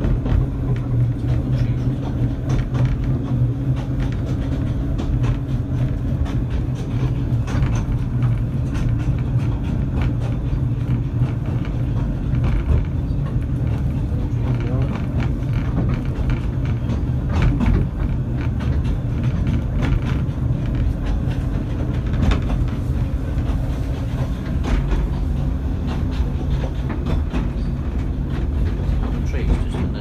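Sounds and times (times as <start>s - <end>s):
railway carriage rumble: 0.0s - 30.0s
wheels clicking on rail joints: 0.0s - 30.0s.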